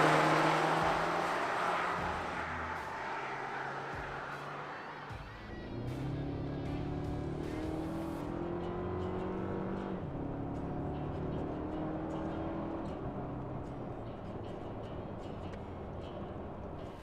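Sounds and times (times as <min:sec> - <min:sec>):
engine accelerating: 0:00.0 - 0:17.0.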